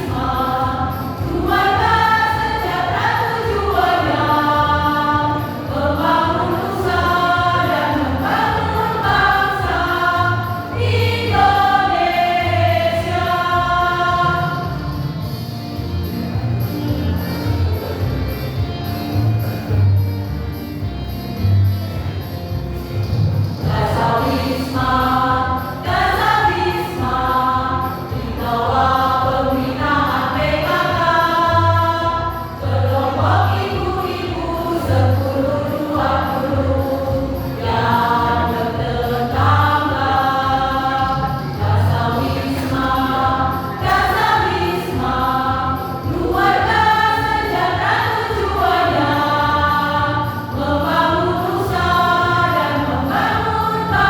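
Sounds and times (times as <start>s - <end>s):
choir singing: 0.0s - 15.4s, 23.6s - 54.0s.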